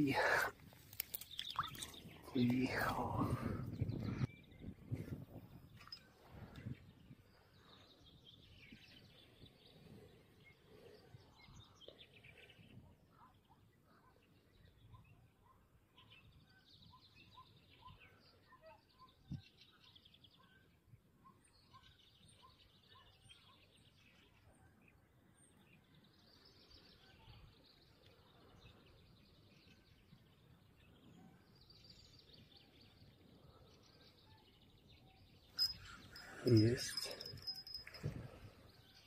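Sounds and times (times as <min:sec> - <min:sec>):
faint birdsong with trills: 0:00.0 - 0:39.0.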